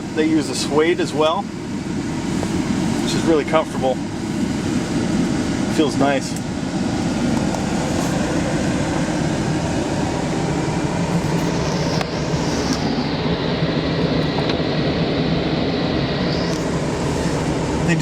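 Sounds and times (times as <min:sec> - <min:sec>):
truck engine idling in cab: 0:00.0 - 0:18.0.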